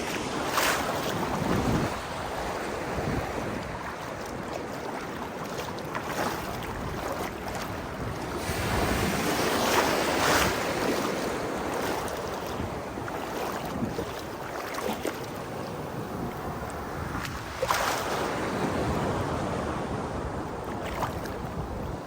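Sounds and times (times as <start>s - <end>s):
waves rushing and breaking: 0.0s - 22.0s.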